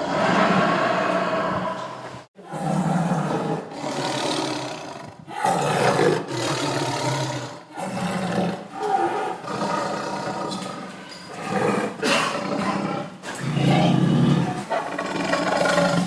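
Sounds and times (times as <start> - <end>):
tiger roaring: 0.0 - 16.0.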